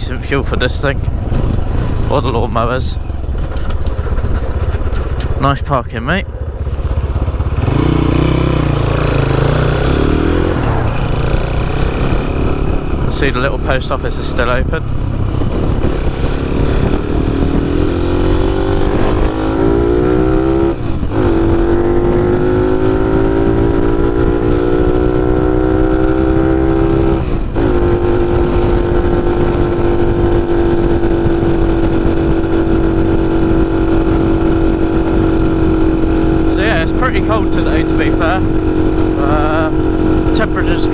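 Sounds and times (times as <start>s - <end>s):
wind rumble on microphone: 0.0s - 40.9s
motorcycle engine pulling away: 6.3s - 40.9s.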